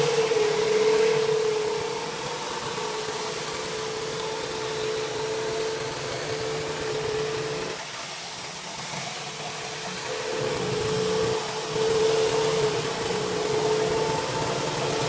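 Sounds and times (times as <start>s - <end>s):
high-pressure water spray hissing: 0.0s - 15.0s
pressure washer machine tone: 0.0s - 15.0s.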